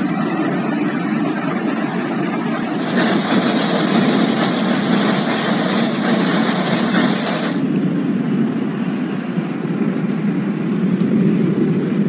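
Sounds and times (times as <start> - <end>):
heavy hail and rain: 0.0 - 12.0.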